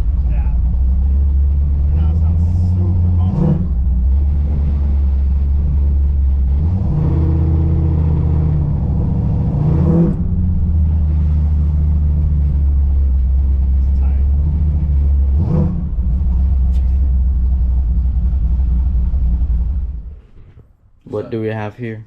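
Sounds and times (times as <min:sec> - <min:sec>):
car engine idling deeply: 0:00.0 - 0:21.4.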